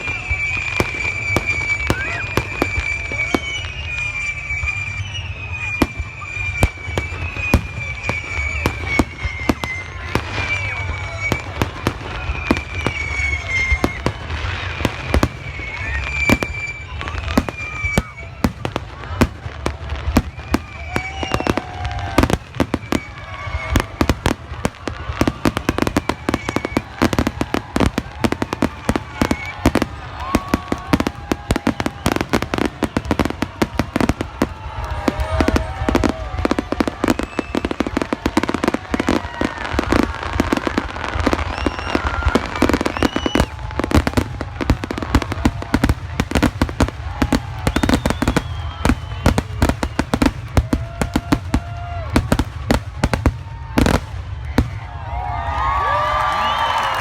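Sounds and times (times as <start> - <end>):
fireworks bursting: 0.0 - 57.0
onlookers' voices: 0.0 - 57.0.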